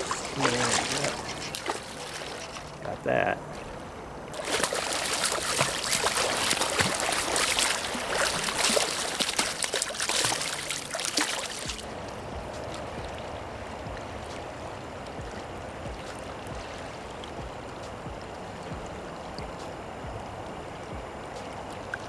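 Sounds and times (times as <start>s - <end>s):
fish splashing in water: 0.0s - 2.9s, 4.3s - 19.4s
river flowing: 0.0s - 22.0s.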